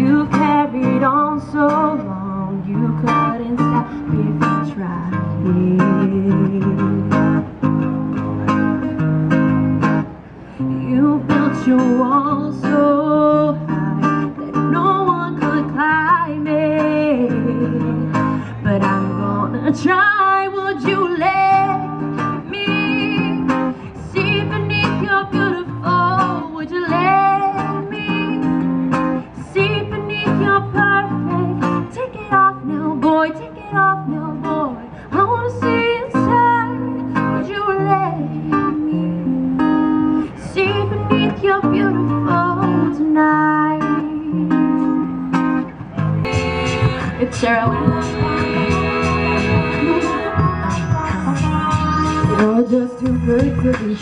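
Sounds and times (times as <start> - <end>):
woman singing into a microphone: 0.0 - 7.6, 10.6 - 45.4, 46.3 - 54.0
acoustic guitar strumming: 0.0 - 54.0.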